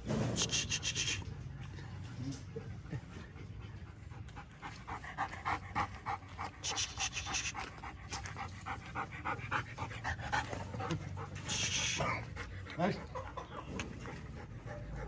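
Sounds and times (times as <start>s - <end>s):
dog panting: 0.4s - 15.0s.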